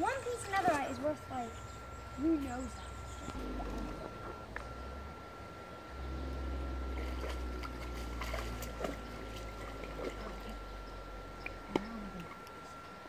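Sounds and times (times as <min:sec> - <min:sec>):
creek water trickling and sloshing: 0:00.0 - 0:04.8, 0:06.0 - 0:13.0
steady low rumble: 0:00.0 - 0:13.0.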